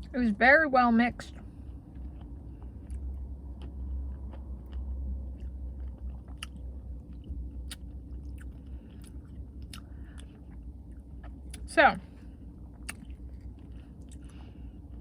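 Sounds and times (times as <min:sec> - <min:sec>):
steady low hum: 0:00.0 - 0:15.0
person chewing: 0:01.3 - 0:11.7, 0:12.3 - 0:15.0.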